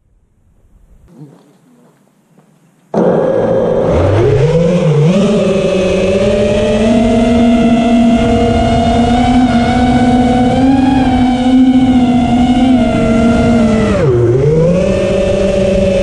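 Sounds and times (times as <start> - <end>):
drone motors whirring: 3.0 - 16.0.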